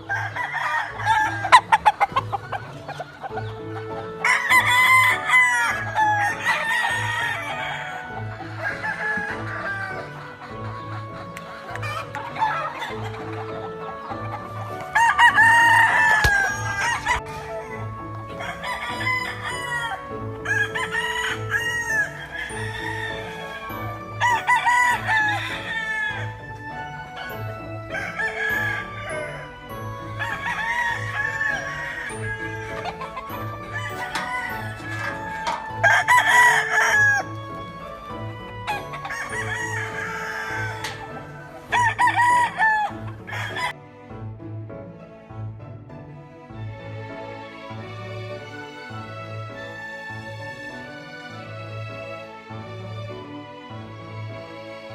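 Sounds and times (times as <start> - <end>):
roosters crowing: 0.0 - 43.8, 48.6 - 51.4
music with steady beat: 0.0 - 54.9.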